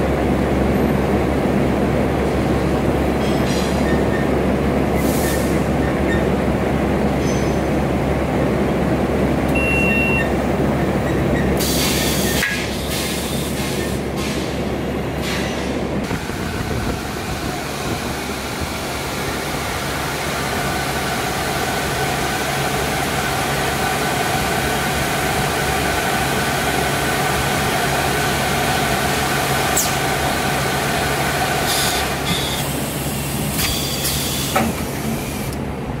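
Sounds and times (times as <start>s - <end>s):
factory machinery running: 0.0s - 36.0s.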